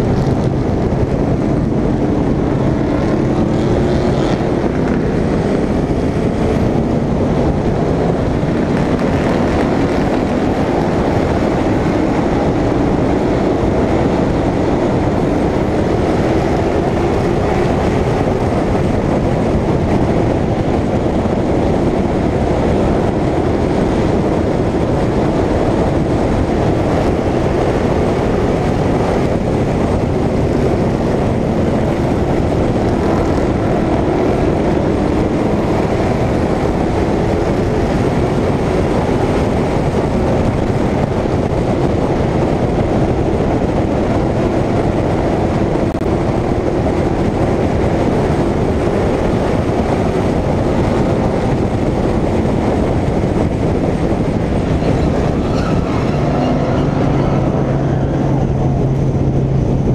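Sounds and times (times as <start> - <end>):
race car engine running hard: 0.0 - 59.9
rushing noise: 0.0 - 59.9.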